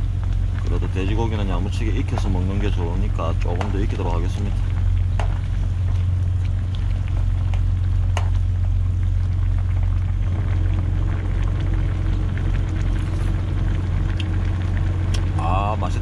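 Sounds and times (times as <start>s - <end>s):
steady low hum: 0.0s - 16.0s
stew boiling and bubbling: 0.0s - 16.0s.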